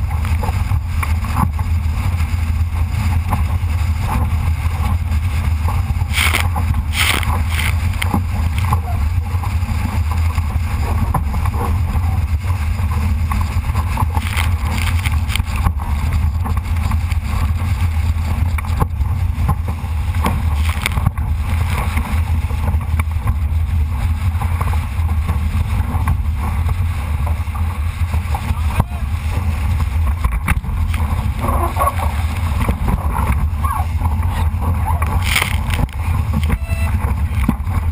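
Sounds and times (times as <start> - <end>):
water rushing along hull: 0.0 - 37.9
wind buffeting microphone: 0.0 - 37.9.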